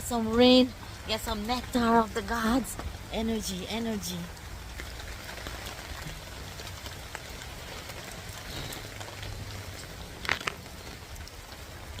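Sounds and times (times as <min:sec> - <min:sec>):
rain pattering on surfaces: 0:00.0 - 0:12.0.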